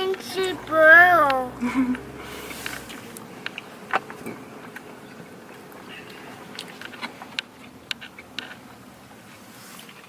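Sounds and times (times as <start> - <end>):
low car cabin hum: 0.0 - 10.0.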